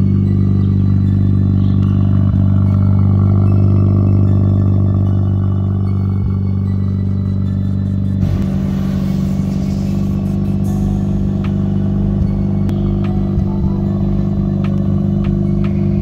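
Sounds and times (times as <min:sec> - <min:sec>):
rotary engine idling: 0:00.0 - 0:16.0.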